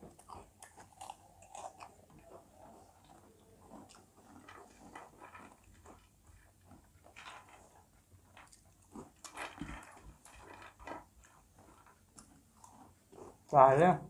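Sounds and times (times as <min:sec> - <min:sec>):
crunching and chewing snacks: 0:00.0 - 0:13.5.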